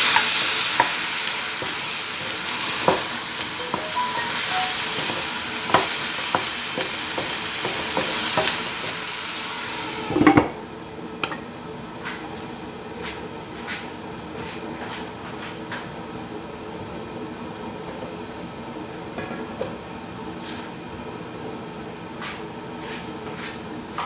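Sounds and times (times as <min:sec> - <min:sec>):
chicken sizzling in a frying pan: 0:00.0 - 0:21.4.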